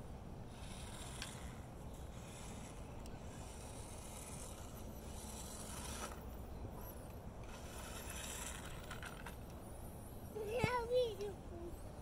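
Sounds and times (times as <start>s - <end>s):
small electric motors whirring: 0.0s - 12.0s.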